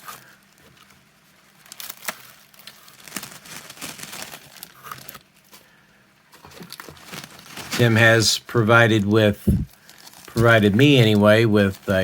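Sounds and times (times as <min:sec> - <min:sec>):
plastic bag crinkling: 0:00.0 - 0:05.5, 0:06.4 - 0:12.0.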